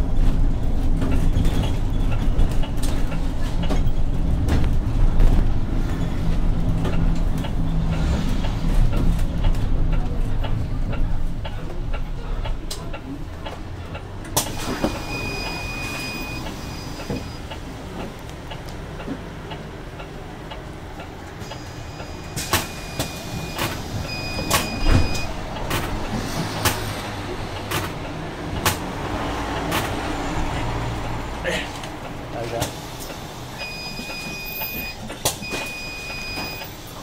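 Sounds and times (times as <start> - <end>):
bus drive hum: 0.0 - 37.0.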